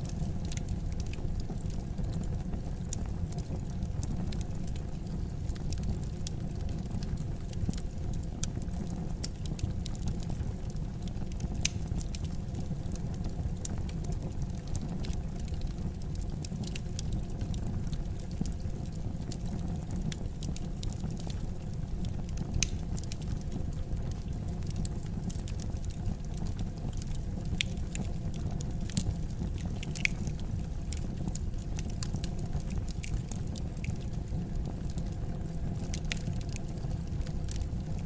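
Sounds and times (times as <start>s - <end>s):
fire crackling in fireplace: 0.0s - 38.0s.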